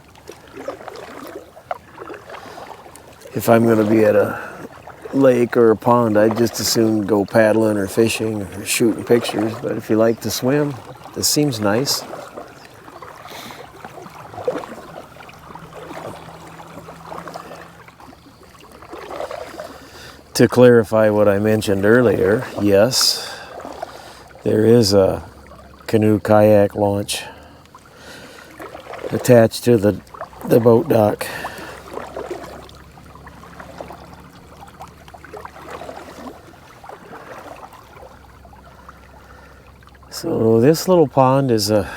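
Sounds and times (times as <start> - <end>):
water trickling and dripping: 0.0 - 41.9.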